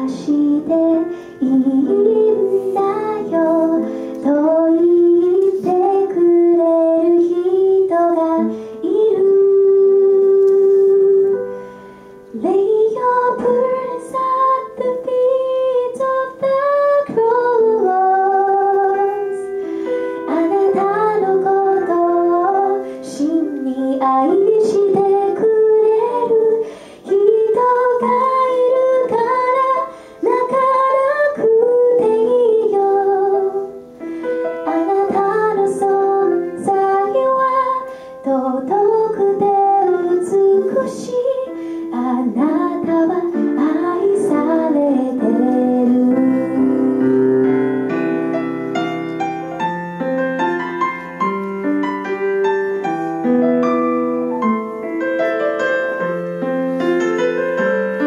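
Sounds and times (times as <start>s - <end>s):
instrumental accompaniment: 0.0s - 58.0s.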